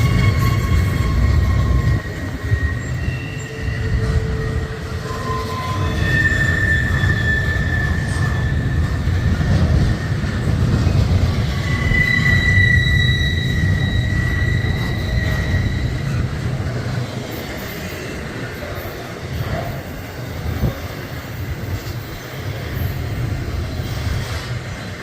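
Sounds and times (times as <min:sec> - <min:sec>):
railroad cars rumbling: 0:00.0 - 0:25.0
wheels squealing on rail: 0:00.0 - 0:25.0.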